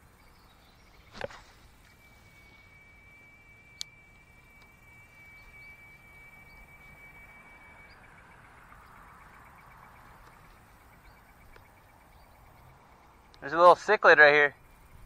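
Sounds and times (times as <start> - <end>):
high insect trill: 0.0 - 15.0
fishing reel whirring: 0.1 - 15.0.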